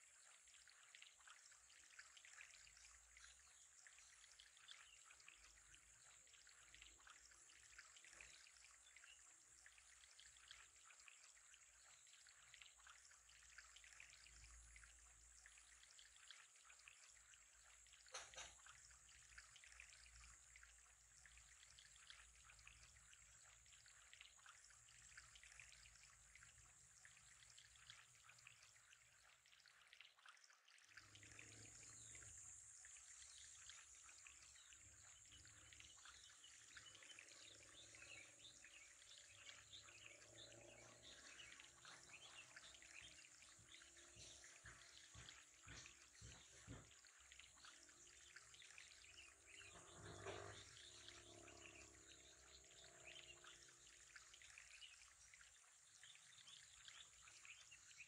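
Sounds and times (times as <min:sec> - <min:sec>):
faint trickling water: 0:00.0 - 0:58.0.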